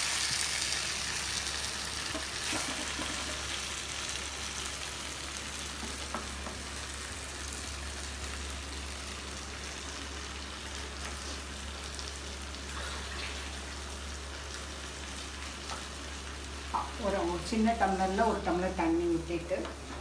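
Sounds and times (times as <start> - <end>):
food sizzling in butter: 0.0 - 19.9.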